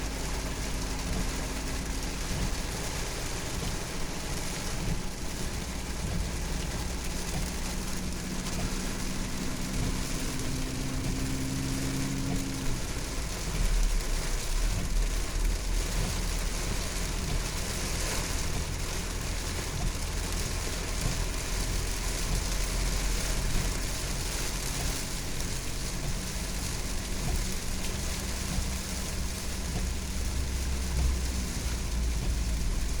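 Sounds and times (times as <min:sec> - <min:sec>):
car rumbling: 0:00.0 - 0:33.0
heavy rain hissing: 0:00.0 - 0:33.0.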